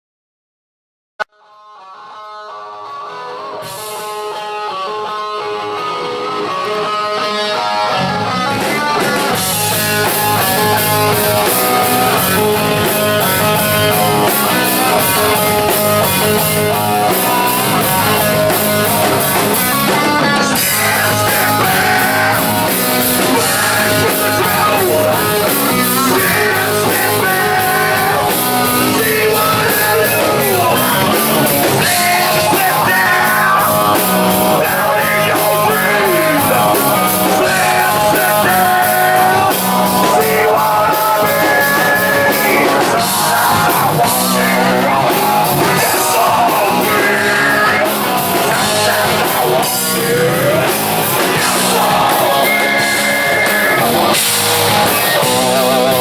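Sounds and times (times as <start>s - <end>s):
electric guitar: 1.3s - 56.0s
bass guitar: 2.7s - 56.0s
drum kit: 3.6s - 56.0s.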